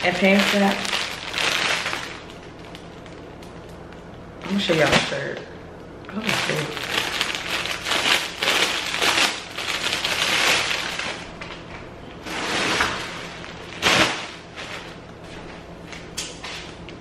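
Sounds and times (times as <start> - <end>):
plastic bag crinkling: 0.0 - 5.4, 6.0 - 15.0.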